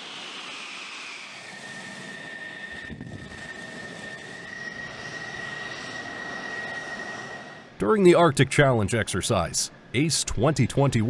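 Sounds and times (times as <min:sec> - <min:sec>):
high steady engine whine: 0:00.0 - 0:11.0
jet engine idling: 0:00.0 - 0:11.0.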